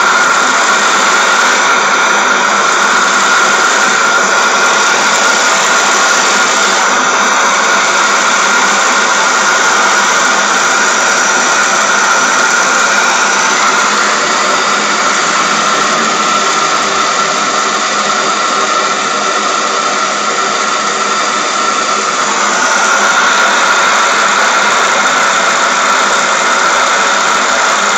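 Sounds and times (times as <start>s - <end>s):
model steam engine running: 0.0s - 27.9s.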